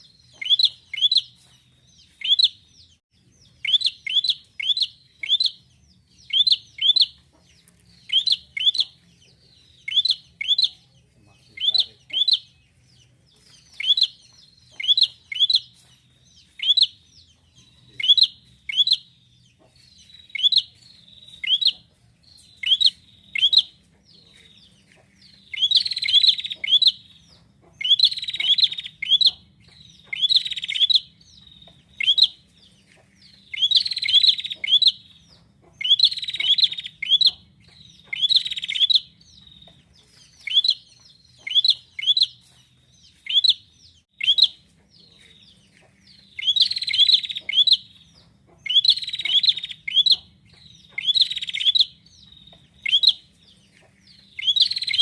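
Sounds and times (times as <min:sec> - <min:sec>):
bird chirping high and sharp: 0:00.0 - 0:07.2, 0:07.9 - 0:09.0, 0:09.6 - 0:12.7, 0:13.4 - 0:19.2, 0:20.0 - 0:23.8, 0:25.3 - 0:44.7, 0:46.1 - 0:55.0.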